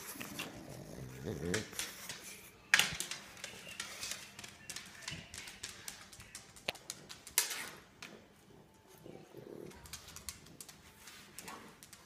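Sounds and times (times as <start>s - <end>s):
dog claws clicking on tile: 0.0s - 8.4s, 9.5s - 12.0s.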